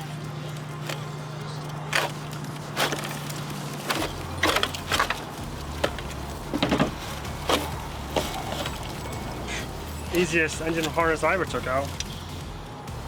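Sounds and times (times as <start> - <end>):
steady low hum: 0.0 - 13.0
wiring clicking and rattling: 0.0 - 13.0.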